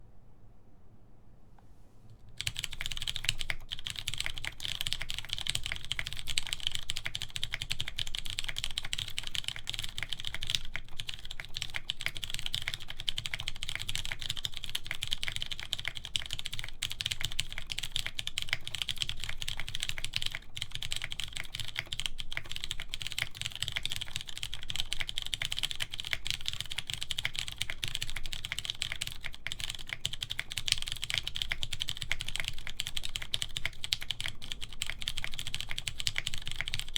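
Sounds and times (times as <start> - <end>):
fast mechanical keyboard typing: 2.4 - 36.9.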